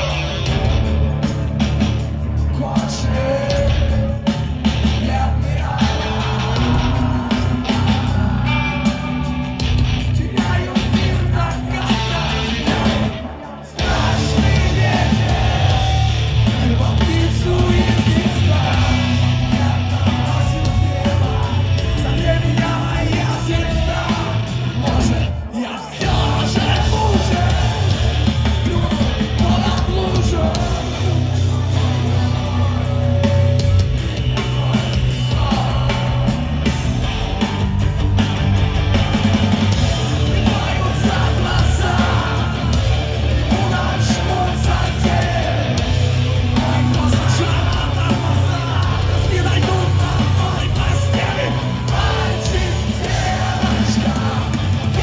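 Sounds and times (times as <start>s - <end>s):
heavy rock band playing live: 0.0s - 55.0s.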